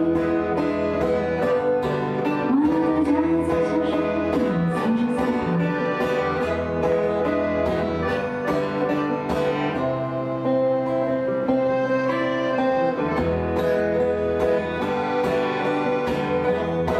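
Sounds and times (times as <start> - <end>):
accordion chords: 0.0 - 16.9
plucked acoustic string instrument: 0.0 - 16.9.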